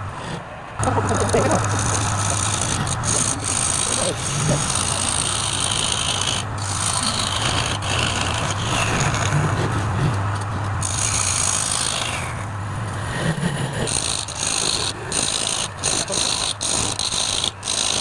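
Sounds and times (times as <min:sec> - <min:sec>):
turning tool scraping wood: 0:00.0 - 0:18.0
wood lathe motor hum: 0:00.0 - 0:18.0.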